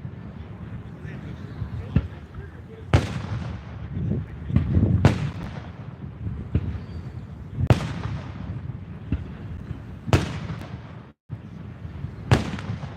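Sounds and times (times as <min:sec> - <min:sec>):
fireworks booming: 0:00.0 - 0:12.9
lighter fireworks bangs: 0:00.0 - 0:12.9.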